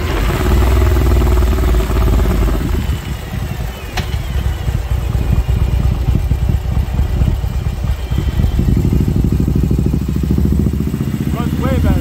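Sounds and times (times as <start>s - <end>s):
motorcycle exhaust while riding: 0.0s - 12.0s.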